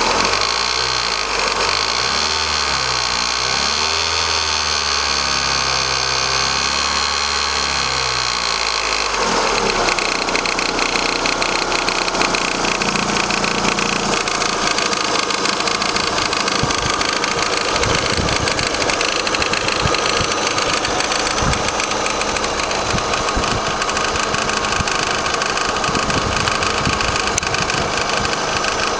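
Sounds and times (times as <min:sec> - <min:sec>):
car engine idling with tapping: 0:00.0 - 0:28.9
vibration at belt pulleys: 0:00.0 - 0:28.9.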